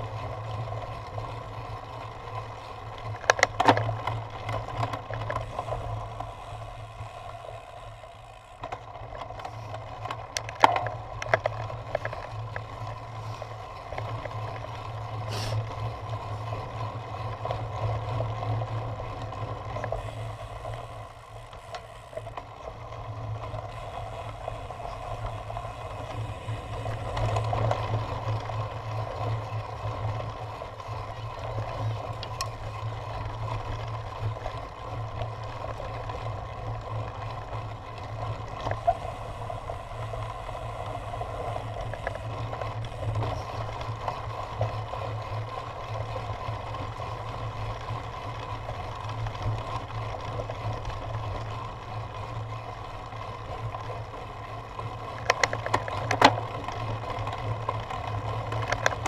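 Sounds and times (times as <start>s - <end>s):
bicycle tyres rumbling: 0.0s - 59.0s.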